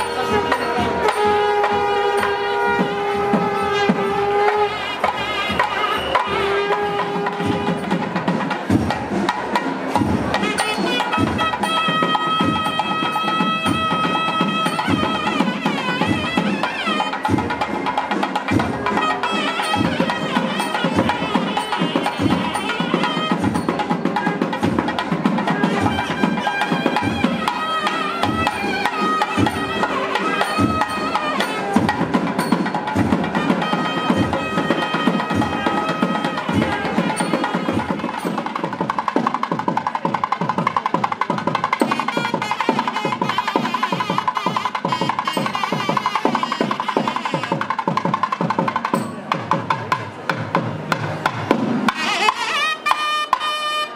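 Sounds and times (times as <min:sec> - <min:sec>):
steady drum beat: 0:00.0 - 0:53.9.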